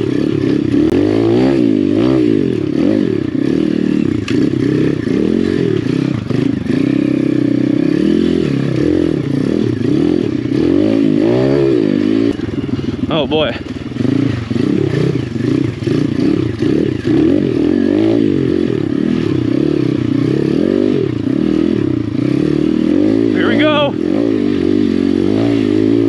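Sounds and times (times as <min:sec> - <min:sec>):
pit bike engine revving: 0:00.0 - 0:26.0.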